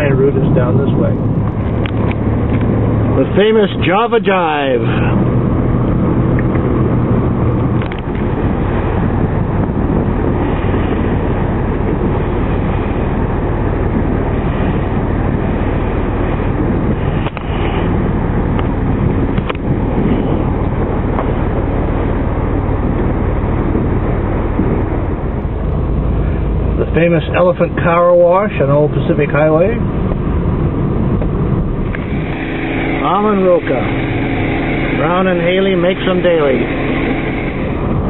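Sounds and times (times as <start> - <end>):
car engine and road noise: 0.0 - 38.0.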